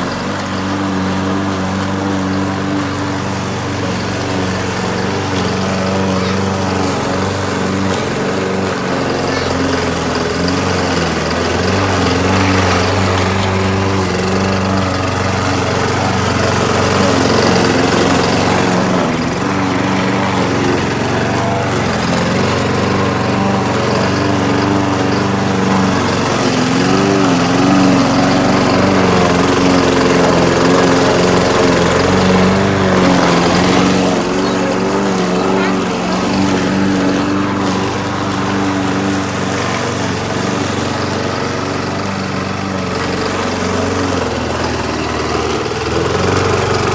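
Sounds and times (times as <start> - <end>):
lawn mower engine cutting grass: 0.0 - 46.9.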